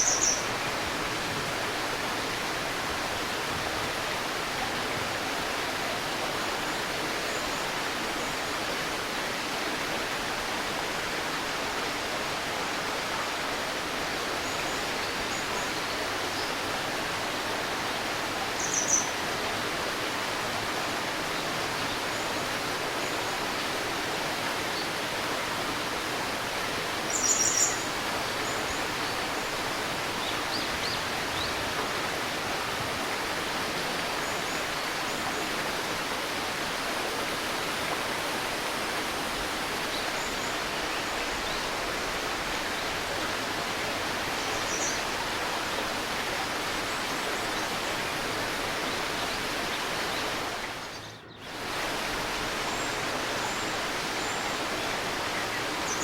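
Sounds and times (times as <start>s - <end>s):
shallow river babbling: 0.0s - 56.0s.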